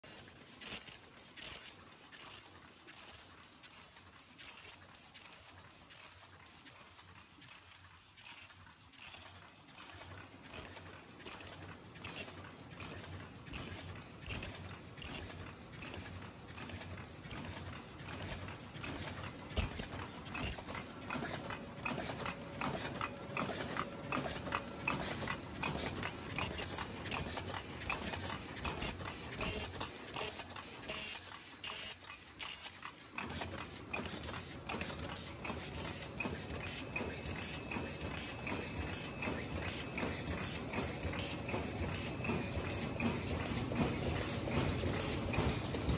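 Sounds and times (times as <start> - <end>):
machine clattering clicks and knocks: 9.0 - 45.9.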